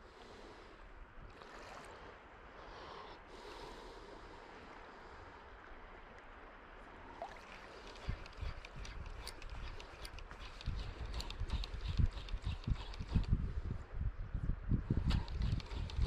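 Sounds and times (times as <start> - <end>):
shallow sea water lapping: 0.0 - 13.9.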